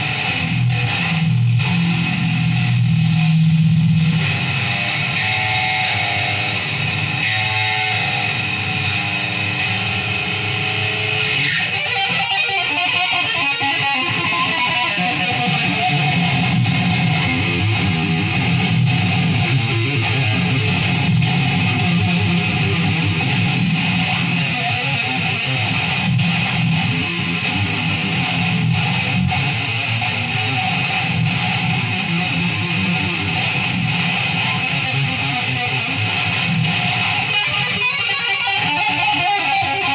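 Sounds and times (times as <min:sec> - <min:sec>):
guitar strumming: 0:00.0 - 0:39.9.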